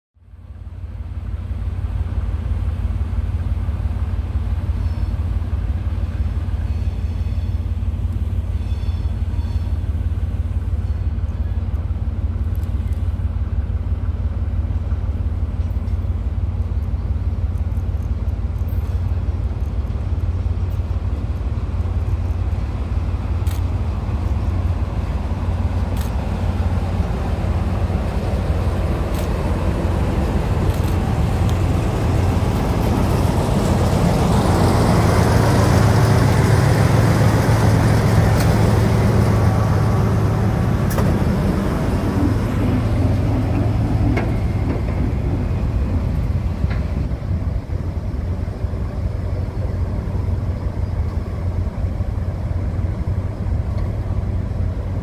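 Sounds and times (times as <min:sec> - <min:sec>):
diesel locomotive rumbling: 0:00.2 - 0:55.0.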